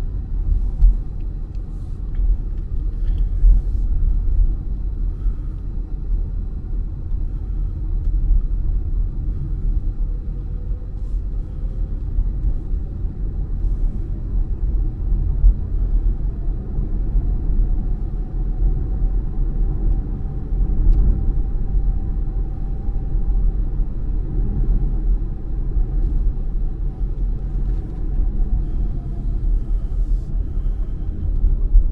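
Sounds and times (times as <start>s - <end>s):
faint whine: 0.0s - 31.9s
road and tyre rumble: 0.0s - 31.9s.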